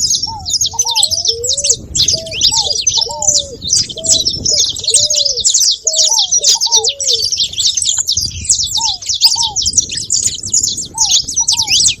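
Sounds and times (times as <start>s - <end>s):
doves cooing: 0.0s - 12.0s
finches chirping: 0.0s - 12.0s.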